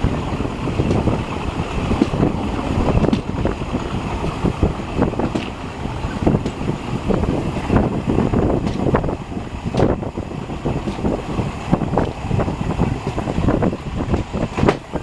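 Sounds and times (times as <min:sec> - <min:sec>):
train rumbling on track: 0:00.0 - 0:15.0
wheels clicking on rails: 0:00.0 - 0:15.0
wind noise: 0:00.0 - 0:15.0.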